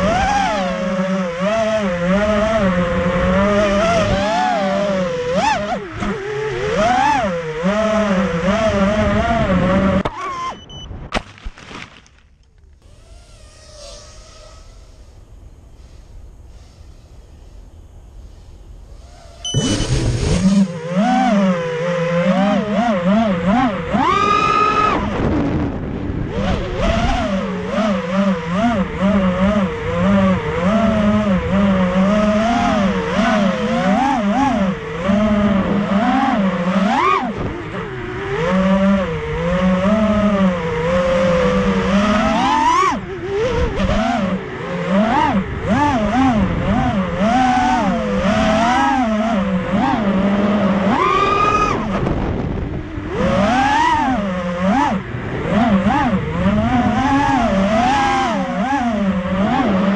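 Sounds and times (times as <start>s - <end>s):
quadcopter motors whining: 0.0s - 10.8s, 12.6s - 59.9s.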